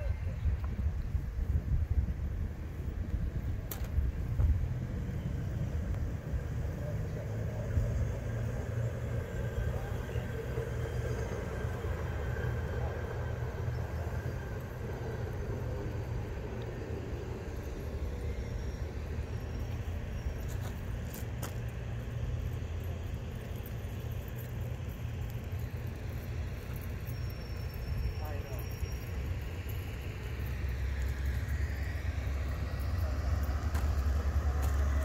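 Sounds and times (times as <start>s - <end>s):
truck rumbling on rails: 0.0s - 35.0s.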